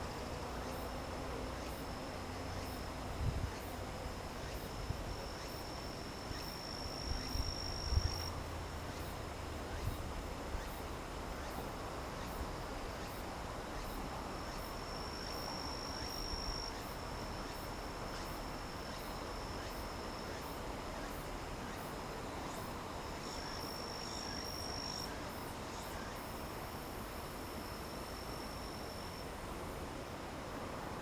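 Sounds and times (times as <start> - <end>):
low background hiss: 0.0 - 31.0
crickets trilling: 0.2 - 29.8.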